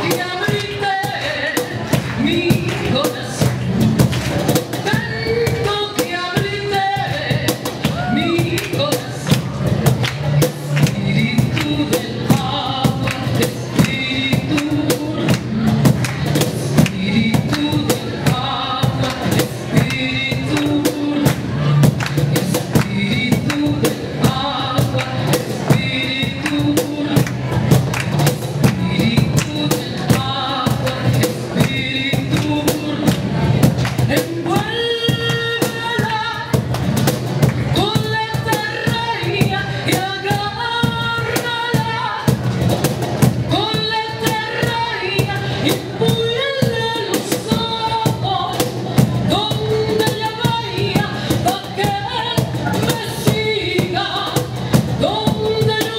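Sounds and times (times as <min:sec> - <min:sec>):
woman singing into microphone: 0:00.0 - 0:03.6, 0:04.7 - 0:09.6, 0:10.3 - 0:27.6, 0:28.6 - 0:36.7, 0:37.6 - 0:42.5, 0:43.5 - 0:55.9.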